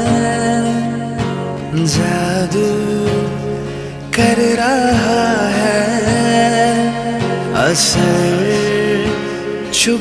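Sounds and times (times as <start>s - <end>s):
romantic film song: 0.0s - 10.0s.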